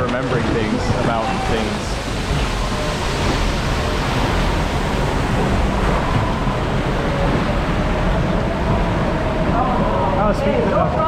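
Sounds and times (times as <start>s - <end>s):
rushing water around boat: 0.0s - 11.0s.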